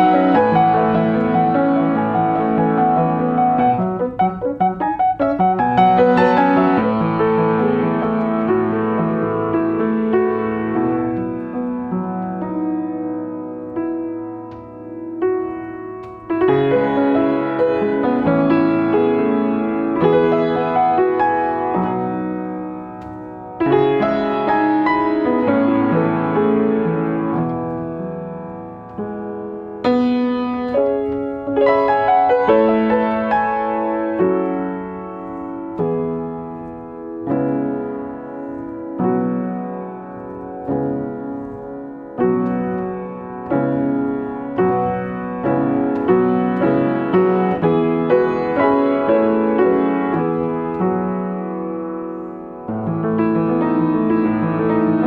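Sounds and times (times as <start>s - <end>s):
upright piano playing slow melody: 0.0s - 55.0s.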